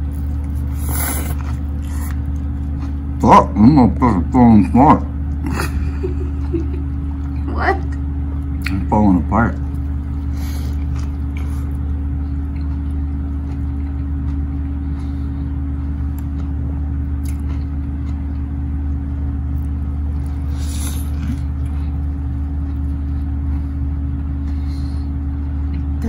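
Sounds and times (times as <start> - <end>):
man chewing: 0.0 - 4.0, 5.0 - 7.4, 8.0 - 26.0
steady low hum: 0.0 - 26.0.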